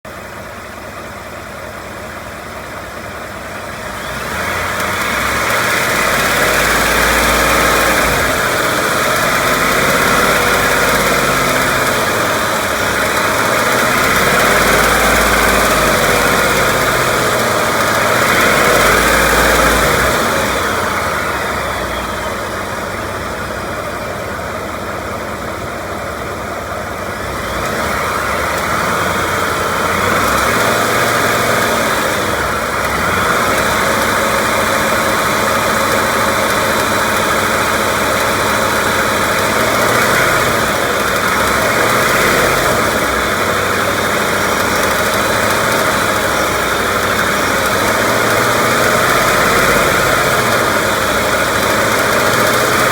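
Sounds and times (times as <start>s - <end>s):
engine ticking: 0.0s - 52.9s
truck engine idling and revving: 0.0s - 52.9s.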